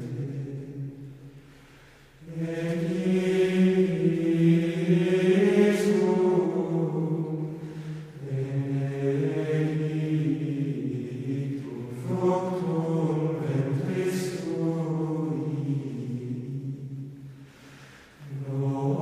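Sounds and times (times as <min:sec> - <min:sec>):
slow vocal chanting: 0:00.0 - 0:19.0.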